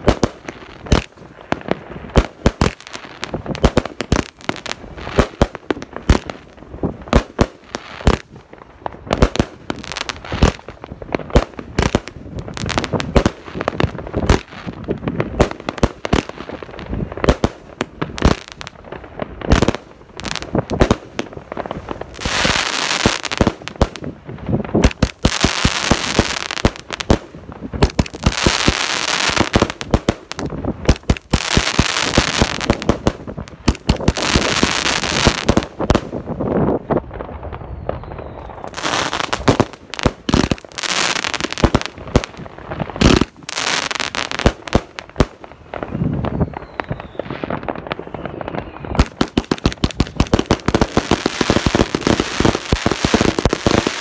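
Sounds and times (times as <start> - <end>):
crackling firework hiss: 0.0 - 54.0
firework bangs: 0.0 - 54.0.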